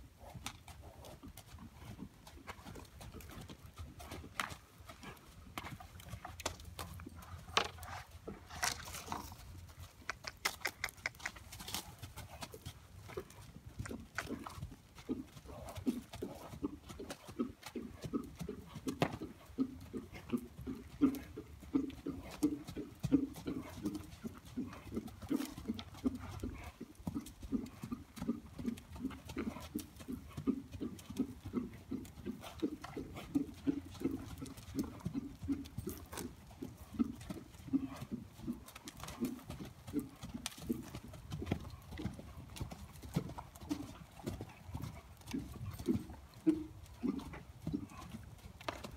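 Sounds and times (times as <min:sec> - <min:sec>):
horse hoofbeats on dirt: 0:00.0 - 0:48.9.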